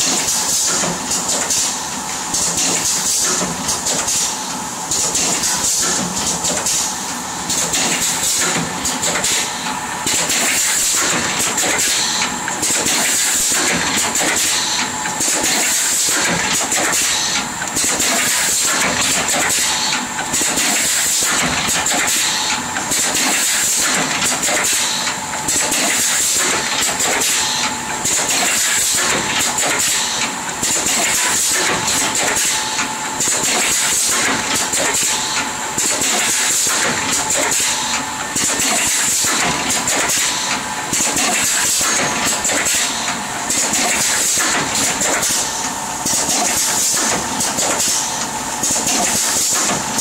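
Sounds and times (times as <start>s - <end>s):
filling machine running: 0.0s - 50.0s.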